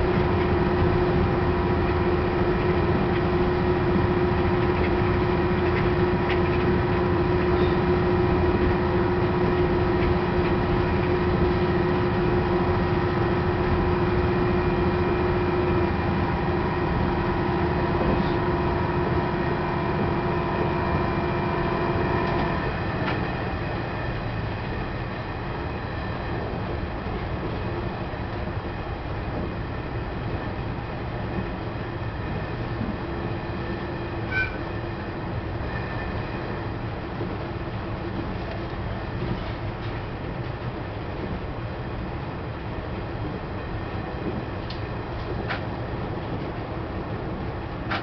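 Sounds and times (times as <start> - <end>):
railcar wheels rumbling on rail: 0.0 - 48.0
steady whine: 0.0 - 48.0.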